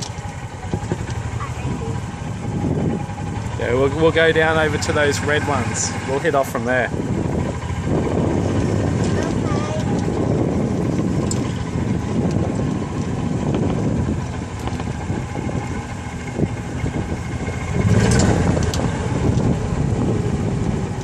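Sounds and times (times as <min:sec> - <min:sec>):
golf cart rumbling: 0:00.0 - 0:21.0
wind buffeting microphone: 0:00.0 - 0:21.0.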